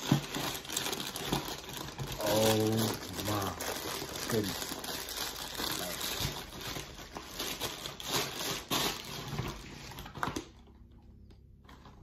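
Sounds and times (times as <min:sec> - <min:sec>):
packing paper rustling: 0:00.0 - 0:10.6.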